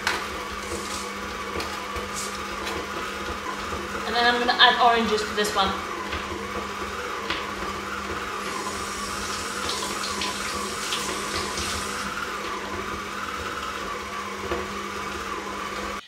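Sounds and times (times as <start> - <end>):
stand mixer humming: 0.0 - 16.0.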